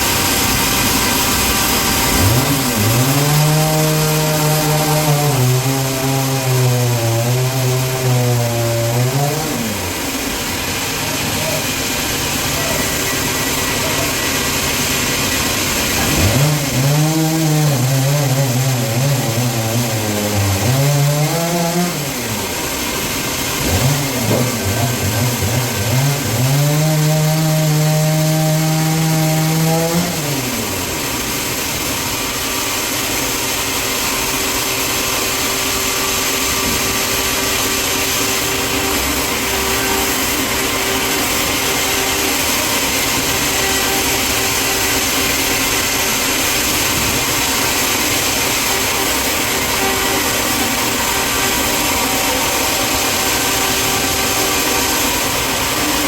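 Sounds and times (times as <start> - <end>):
engine revving under load: 0.0 - 56.0
sawmill machinery noise: 0.0 - 56.0.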